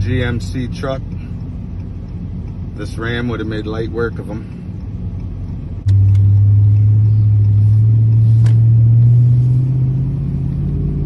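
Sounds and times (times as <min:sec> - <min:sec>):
truck engine under heavy throttle: 0:00.0 - 0:11.0.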